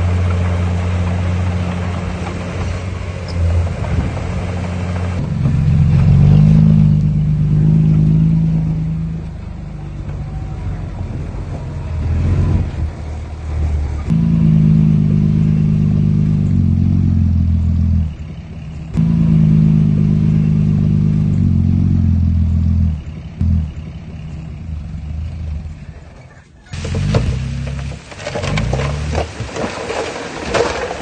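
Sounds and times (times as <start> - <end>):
bulldozer diesel engine: 0.0 - 31.0.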